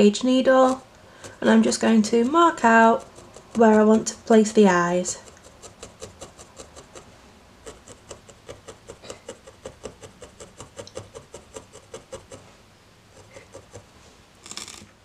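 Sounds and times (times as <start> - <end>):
felting needle poking wool: 0.0 - 12.5, 13.2 - 13.9.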